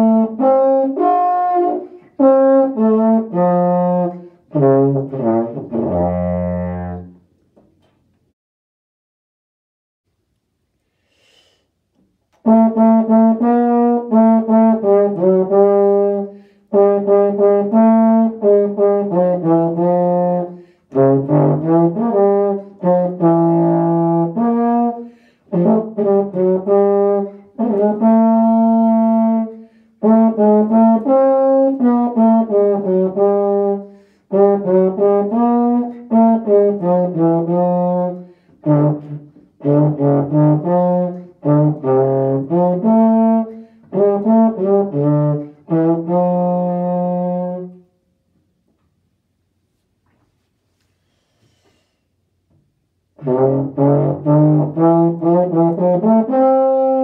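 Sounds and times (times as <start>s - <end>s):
solo euphonium melody: 0.0s - 7.3s, 12.4s - 48.0s, 53.1s - 57.0s.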